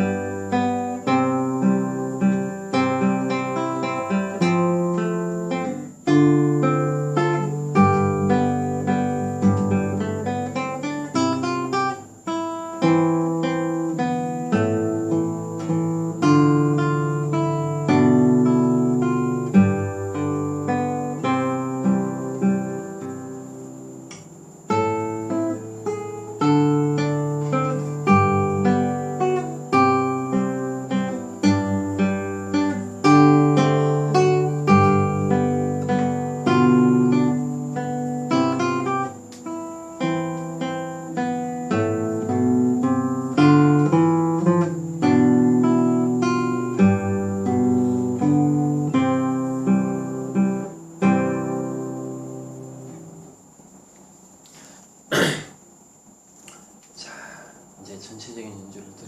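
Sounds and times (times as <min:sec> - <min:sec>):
classical guitar fingerstyle: 0:00.0 - 0:54.6.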